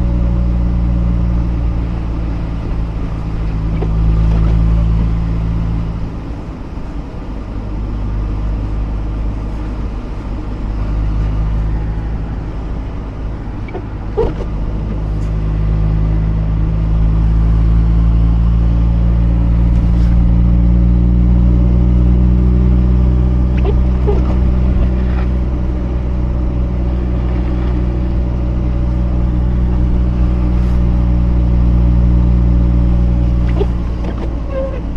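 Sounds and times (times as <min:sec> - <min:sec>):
rotary engine droning: 0:00.0 - 0:34.9.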